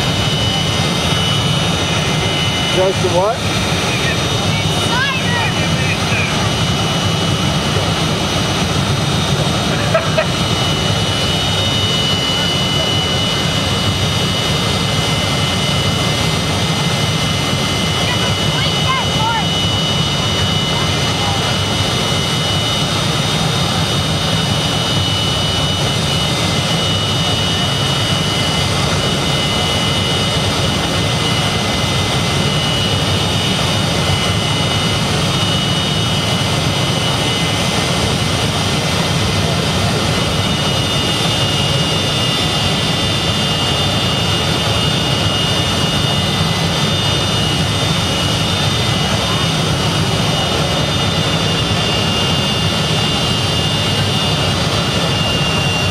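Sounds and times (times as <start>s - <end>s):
jet engine roaring with high whine: 0.0s - 55.9s.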